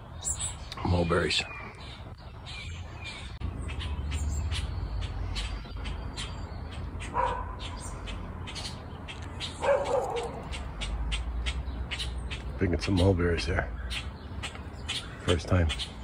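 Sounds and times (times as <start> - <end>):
birds chirping high: 0.0 - 16.0
louder lower bird calls: 0.0 - 16.0.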